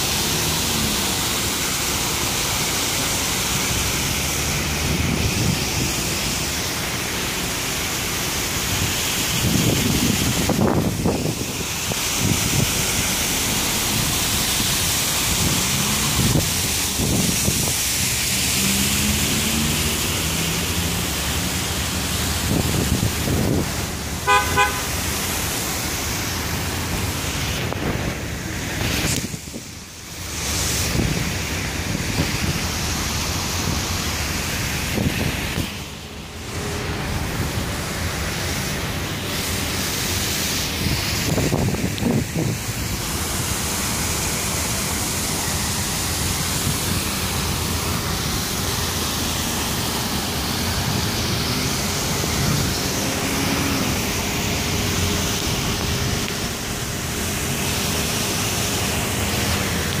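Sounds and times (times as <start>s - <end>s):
fountain water splashing: 0.0s - 60.0s.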